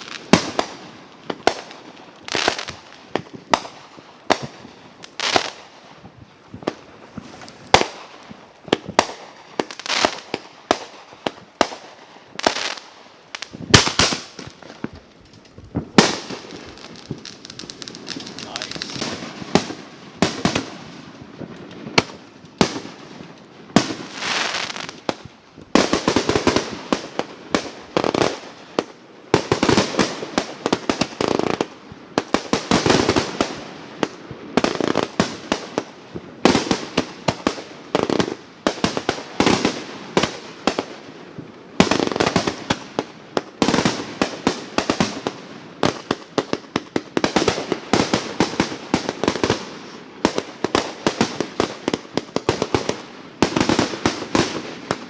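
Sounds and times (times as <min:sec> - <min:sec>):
fireworks crackling pops: 0:00.0 - 0:55.0.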